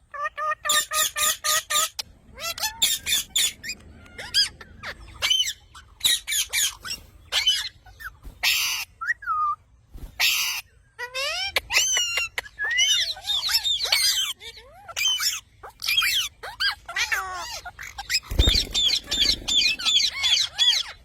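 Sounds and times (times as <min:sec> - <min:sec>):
parrot squawking and chirping: 0:00.1 - 0:09.2, 0:10.2 - 0:21.0.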